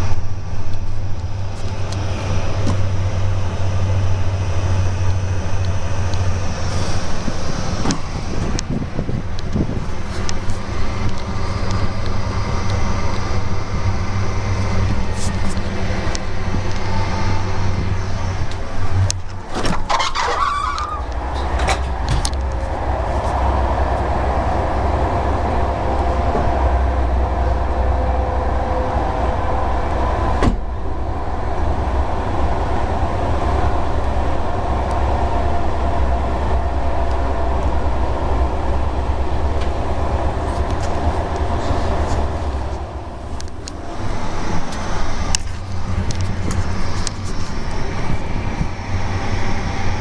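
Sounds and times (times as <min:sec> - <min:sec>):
train rumbling at speed: 0:00.0 - 0:50.0.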